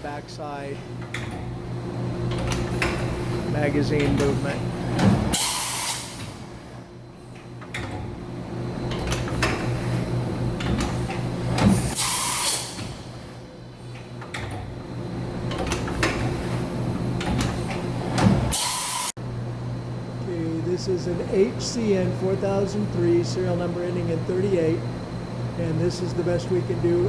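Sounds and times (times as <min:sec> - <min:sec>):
machine humming: 0:00.0 - 0:27.0.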